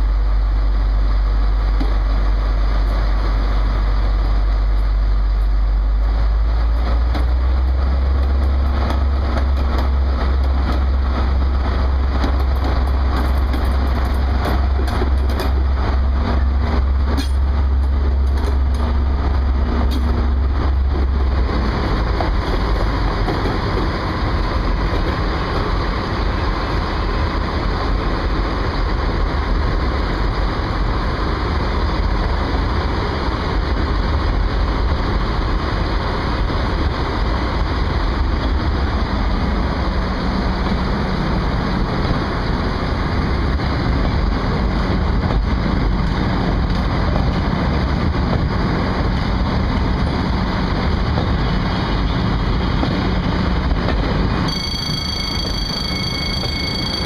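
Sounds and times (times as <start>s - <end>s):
diesel train running: 0.0s - 57.0s.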